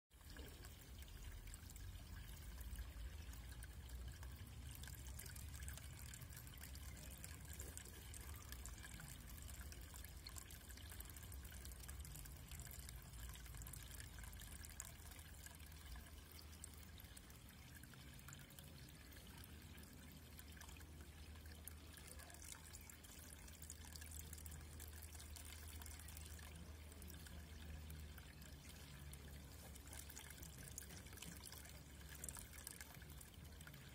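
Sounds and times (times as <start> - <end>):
pond water trickling: 0.1 - 33.9.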